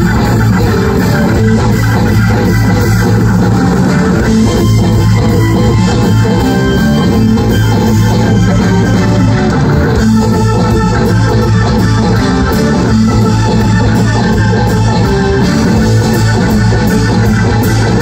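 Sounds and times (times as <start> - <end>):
bass guitar: 0.0 - 18.0
drum kit: 0.0 - 18.0
keyboard: 0.0 - 18.0.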